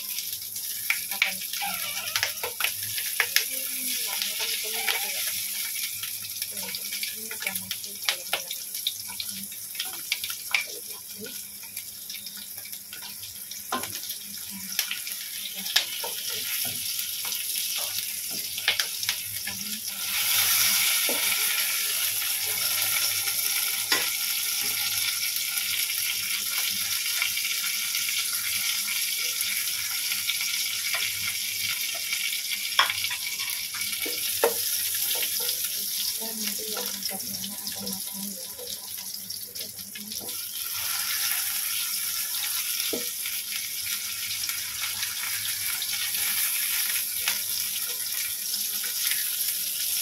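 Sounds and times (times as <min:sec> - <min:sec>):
chilies sizzling in oil: 0:00.0 - 0:50.0.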